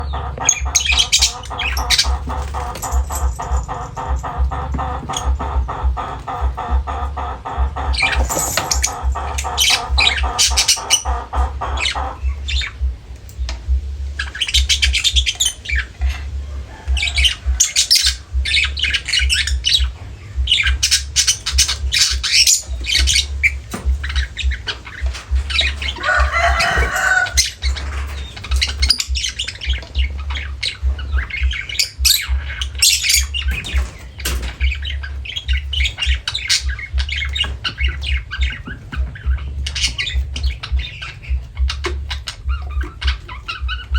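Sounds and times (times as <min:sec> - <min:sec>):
lovebirds squawking and chirping: 0:00.0 - 0:43.9
low pulsing rumble: 0:00.0 - 0:43.9.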